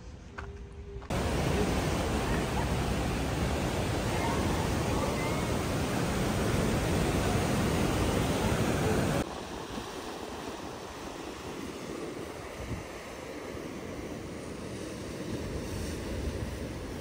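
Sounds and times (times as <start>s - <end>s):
surf breaking on rocky shore: 1.1s - 17.0s.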